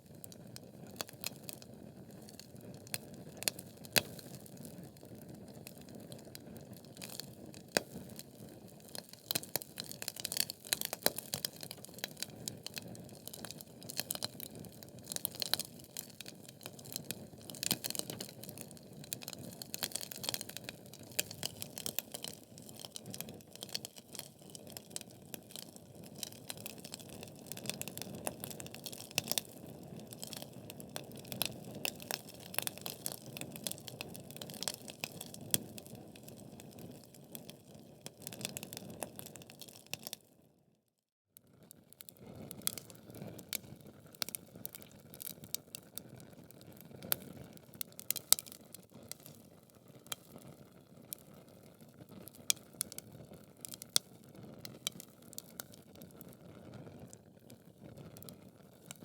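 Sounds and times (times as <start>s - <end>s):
wood fire crackling: 0.1s - 40.2s, 42.5s - 56.5s.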